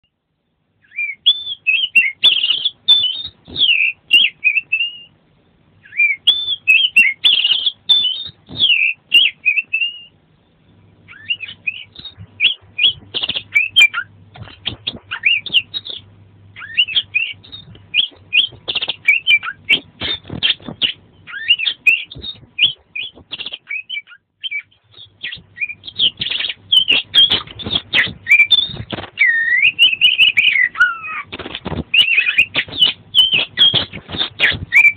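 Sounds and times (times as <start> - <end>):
bird singing whistled phrases: 0.8 - 5.1, 5.8 - 10.2, 11.1 - 31.3, 31.9 - 34.9.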